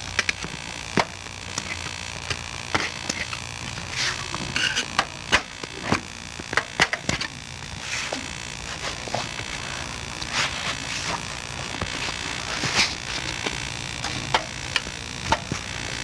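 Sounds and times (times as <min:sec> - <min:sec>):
steady hum: 0:00.0 - 0:16.0
tape hiss: 0:00.0 - 0:16.0.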